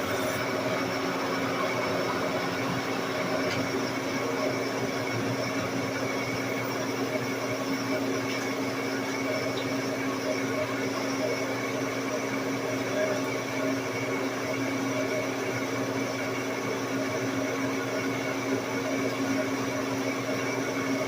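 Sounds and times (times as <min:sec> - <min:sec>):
lathe humming: 0:00.0 - 0:21.0.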